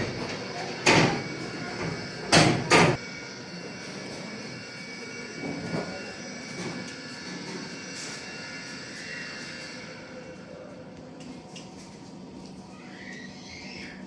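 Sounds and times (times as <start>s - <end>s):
ceiling fan humming and whining: 0.0s - 14.0s.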